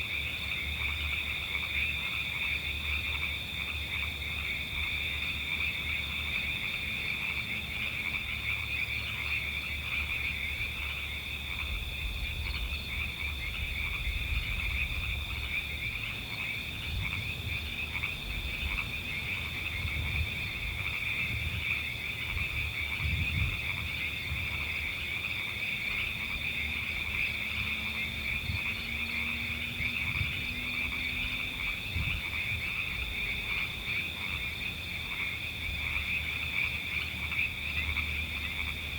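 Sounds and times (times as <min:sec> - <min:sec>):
frogs trilling chorus: 0:00.0 - 0:38.9.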